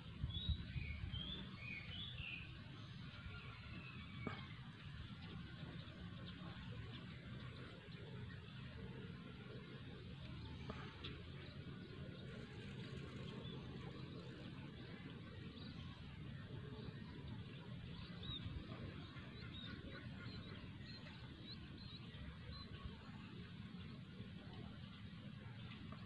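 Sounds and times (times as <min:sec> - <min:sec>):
faint outdoor background noise: 0:00.0 - 0:26.0.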